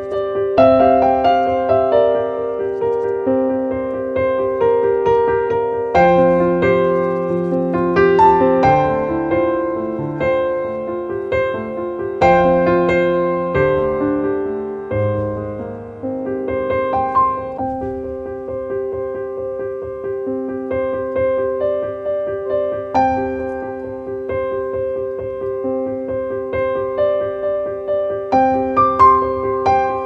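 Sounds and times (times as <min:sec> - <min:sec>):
gentle piano piece: 0:00.0 - 0:30.0.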